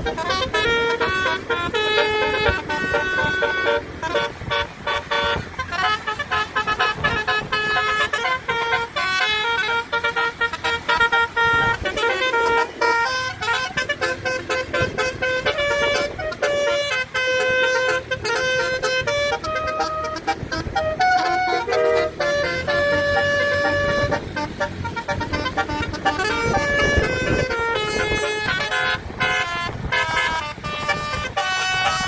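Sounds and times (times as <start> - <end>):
musical bus horn melody: 0.0 - 32.0.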